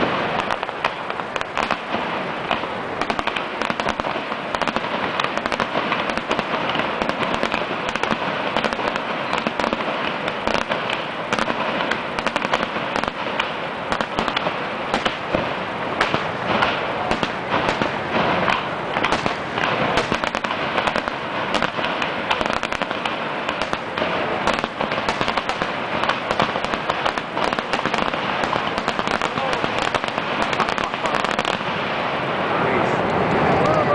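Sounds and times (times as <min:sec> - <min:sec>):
firework shells exploding: 0:00.0 - 0:33.5
fireworks crackling: 0:00.0 - 0:33.9.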